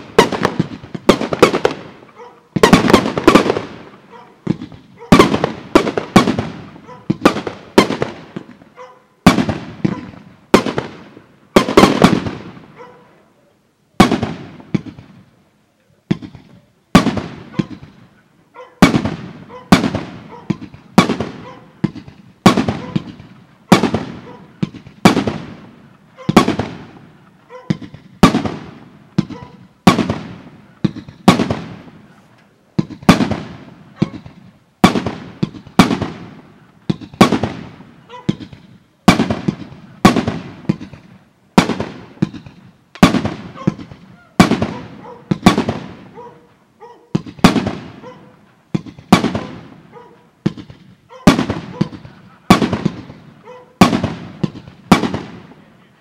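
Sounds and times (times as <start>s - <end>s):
fireworks bangs with echo: 0.0s - 13.0s, 14.0s - 15.4s, 16.0s - 18.2s, 18.8s - 55.9s.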